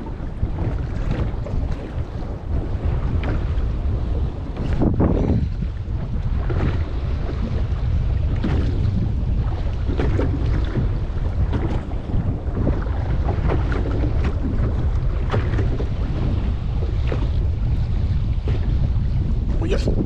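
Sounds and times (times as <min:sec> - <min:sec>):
water lapping against boat hull: 0:00.0 - 0:20.0
wind buffeting microphone: 0:00.0 - 0:20.0.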